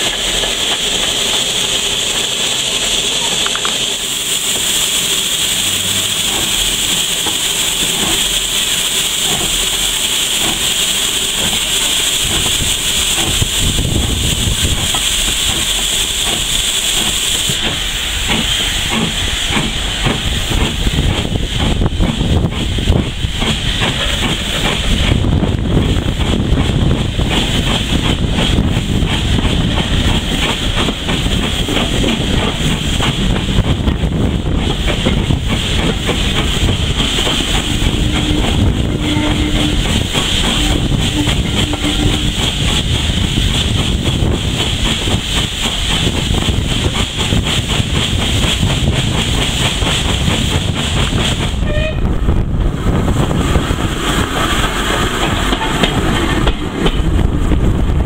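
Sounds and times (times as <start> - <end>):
steam hissing: 0.0 - 58.0
train wheels clicking on rails: 0.0 - 58.0.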